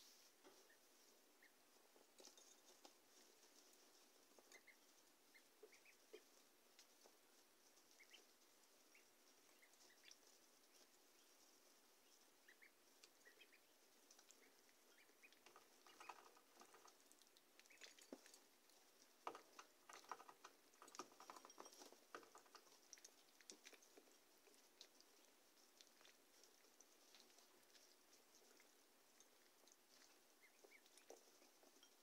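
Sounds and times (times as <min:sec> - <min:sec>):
ducklings pattering in bedding: 0:00.0 - 0:32.0
ducklings pecking at feeder: 0:00.0 - 0:32.0
ducklings peeping: 0:00.5 - 0:01.7, 0:04.3 - 0:07.2, 0:07.8 - 0:32.0.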